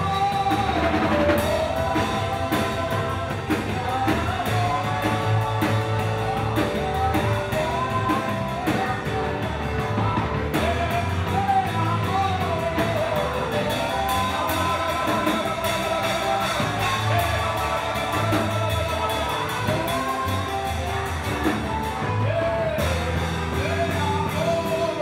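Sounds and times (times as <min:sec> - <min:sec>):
drum kit beat: 0:00.0 - 0:25.0
live band playing: 0:00.0 - 0:25.0
person singing: 0:00.0 - 0:25.0.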